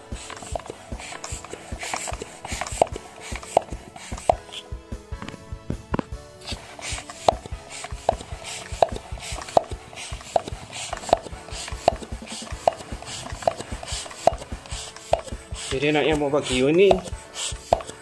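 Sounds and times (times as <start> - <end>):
air hissing: 0.0 - 18.0
floor pump strokes knocking: 0.0 - 18.0.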